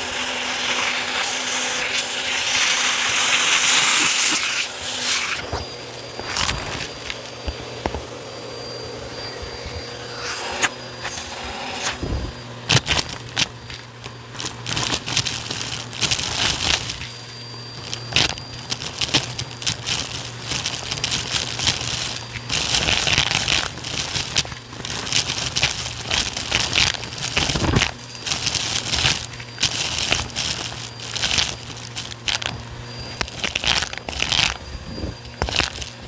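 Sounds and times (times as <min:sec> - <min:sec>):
debris rattling up vacuum hose: 0:00.0 - 0:08.6, 0:09.2 - 0:36.0
vacuum motor hum: 0:00.0 - 0:36.0.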